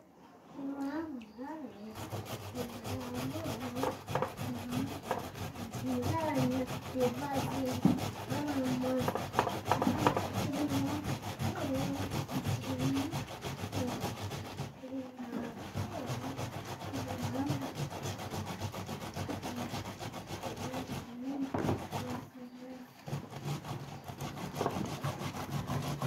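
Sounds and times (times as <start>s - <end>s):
grating on a metal box grater: 1.8s - 26.0s.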